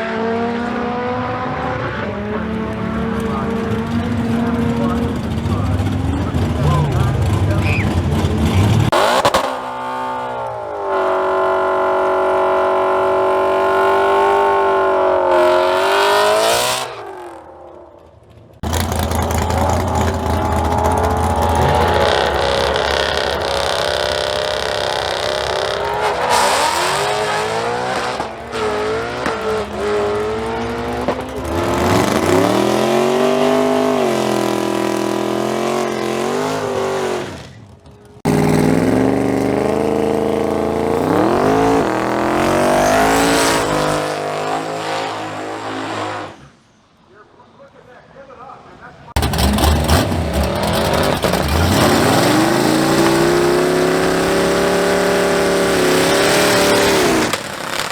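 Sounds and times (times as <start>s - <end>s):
car engines at high revs: 0.0s - 46.6s, 49.1s - 57.9s.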